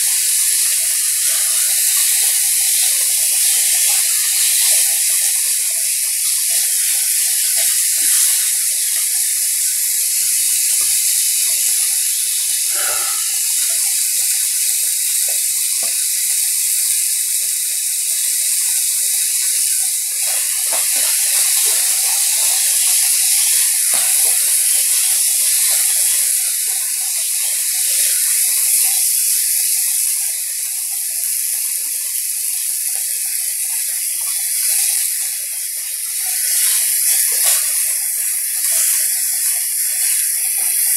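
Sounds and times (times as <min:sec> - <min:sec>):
meat sizzling on a griddle: 0:00.0 - 0:40.9.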